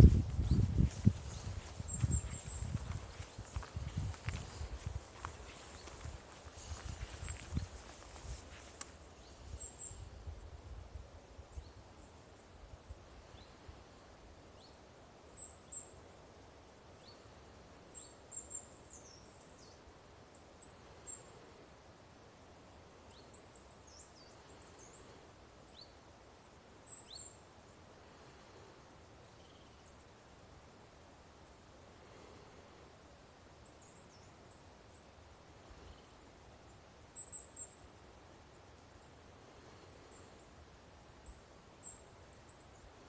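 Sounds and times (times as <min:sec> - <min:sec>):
small birds singing: 0:00.0 - 0:10.6, 0:11.5 - 0:16.2, 0:16.8 - 0:21.6, 0:22.6 - 0:30.2, 0:31.3 - 0:32.9, 0:33.6 - 0:43.0.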